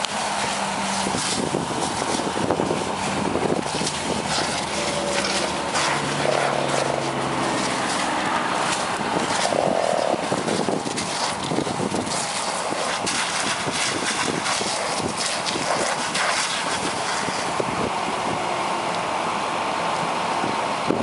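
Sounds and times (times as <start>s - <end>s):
water hissing into steam: 0.0s - 17.7s
engine humming: 0.0s - 21.0s.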